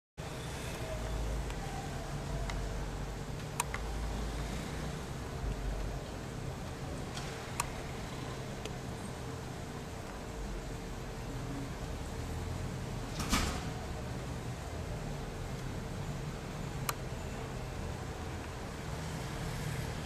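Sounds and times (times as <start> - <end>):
distant city traffic rumble: 0.2 - 20.0
faint constant hum: 0.2 - 20.0.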